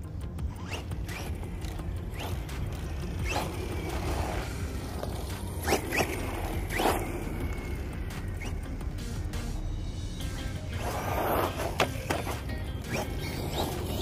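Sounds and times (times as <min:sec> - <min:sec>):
rc truck motor whine: 0:00.0 - 0:14.0.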